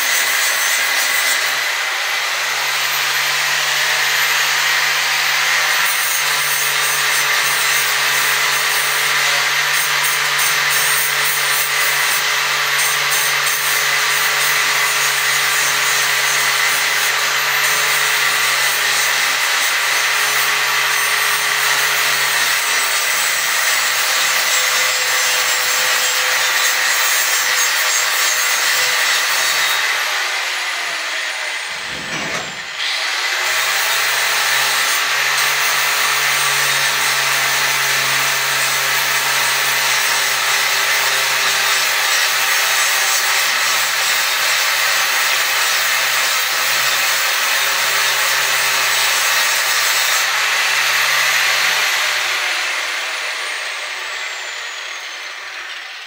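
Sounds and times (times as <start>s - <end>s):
angle grinder grinding metal: 0.0s - 56.0s.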